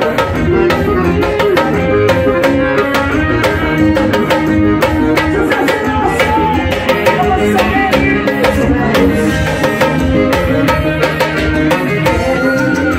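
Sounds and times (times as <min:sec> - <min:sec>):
fast steady drum beat: 0:00.0 - 0:12.9
keyboard melody: 0:00.0 - 0:12.9.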